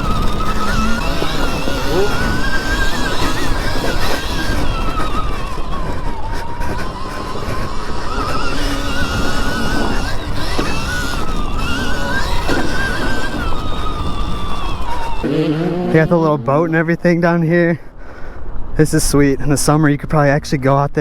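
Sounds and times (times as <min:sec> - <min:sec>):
wind rumble on microphone: 0:00.0 - 0:17.4
dirt bike engine whining: 0:00.0 - 0:18.8.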